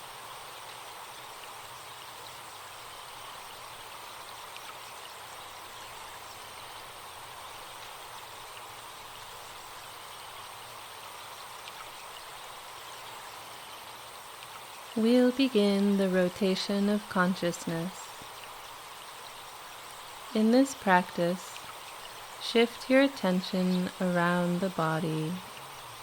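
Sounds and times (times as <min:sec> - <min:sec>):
stream flowing: 0:00.0 - 0:26.0.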